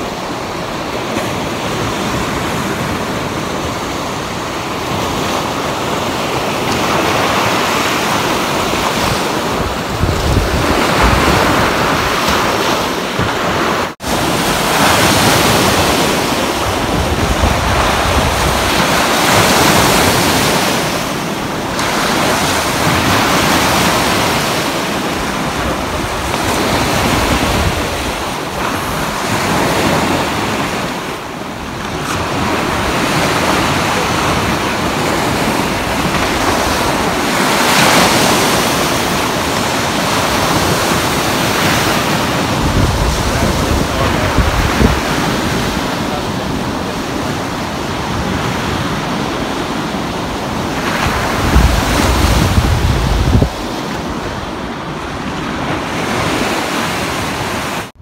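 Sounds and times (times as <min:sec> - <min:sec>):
waves breaking over rocks: 0:00.0 - 0:57.9
wind rumbling on microphone: 0:00.0 - 0:58.0.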